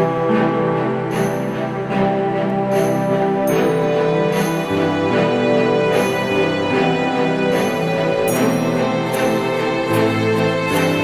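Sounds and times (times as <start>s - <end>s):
soft instrumental music with beat: 0.0s - 11.0s.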